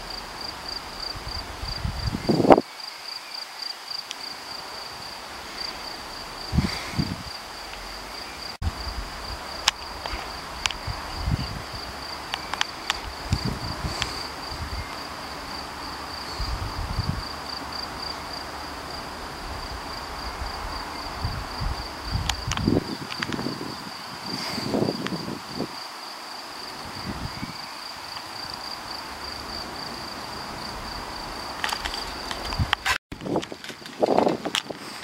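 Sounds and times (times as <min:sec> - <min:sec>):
cricket trilling: 0:00.0 - 0:34.8
wind buffeting microphone: 0:00.6 - 0:02.7, 0:05.0 - 0:25.8, 0:26.7 - 0:35.0.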